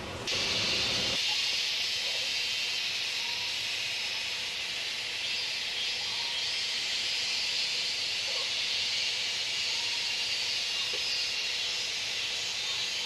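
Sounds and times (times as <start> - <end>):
insect chorus hissing: 0.3 - 13.0.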